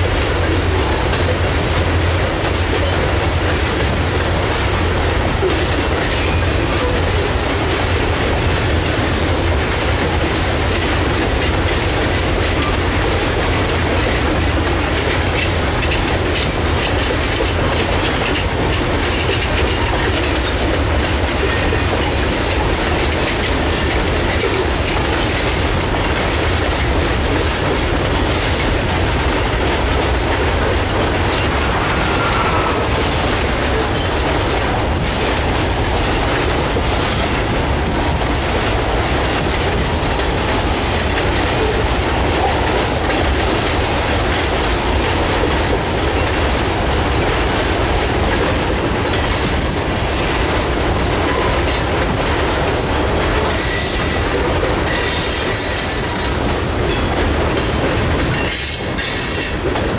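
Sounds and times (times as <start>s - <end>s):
freight train rumbling past: 0.0s - 59.9s
wheels clicking over rail joints: 0.0s - 59.9s.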